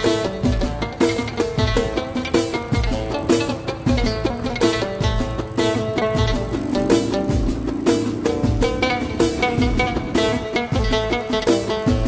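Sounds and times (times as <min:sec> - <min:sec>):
drum beat: 0:00.0 - 0:12.0
plucked lute notes: 0:00.0 - 0:12.0.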